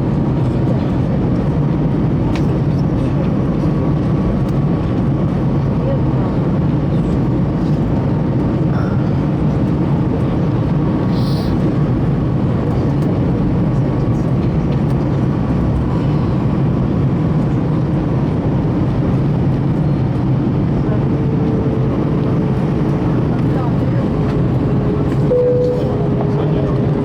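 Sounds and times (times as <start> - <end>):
aircraft cabin rumble: 0.0 - 27.0.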